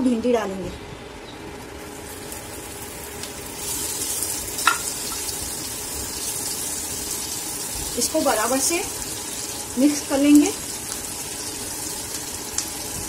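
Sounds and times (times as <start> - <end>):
okra sizzling in hot oil: 1.5 - 13.0.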